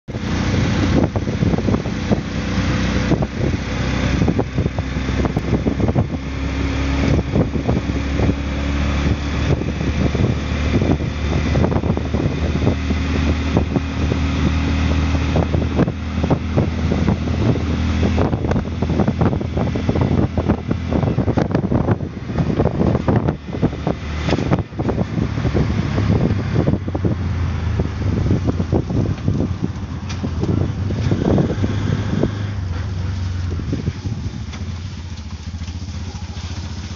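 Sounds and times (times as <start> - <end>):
auto rickshaw engine droning: 0.0 - 36.9
rush of wind: 0.0 - 36.9.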